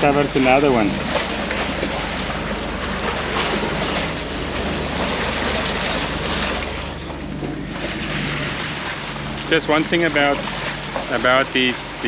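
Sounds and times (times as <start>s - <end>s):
low diesel engine hum: 0.0s - 12.0s
water rushing along hull: 0.0s - 12.0s.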